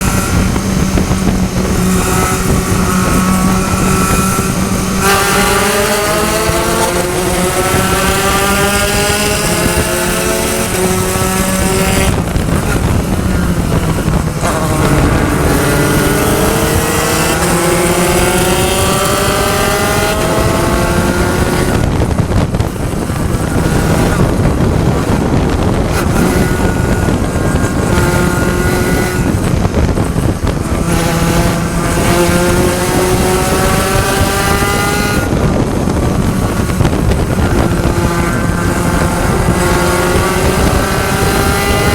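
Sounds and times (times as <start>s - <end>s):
race car engine at full throttle: 0.0s - 41.9s.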